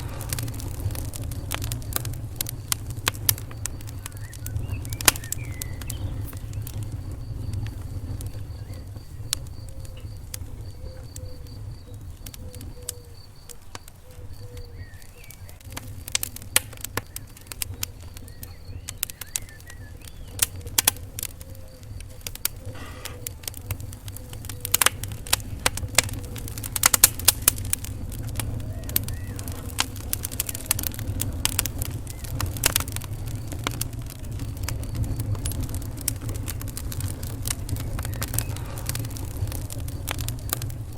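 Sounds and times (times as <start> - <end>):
fire crackling and popping: 0.0 - 40.9
fire flames rumbling: 0.0 - 40.9.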